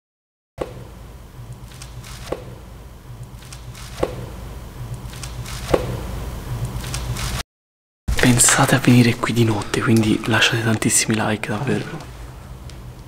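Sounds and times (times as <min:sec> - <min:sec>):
low steady hum: 0:00.6 - 0:07.2, 0:08.1 - 0:13.0.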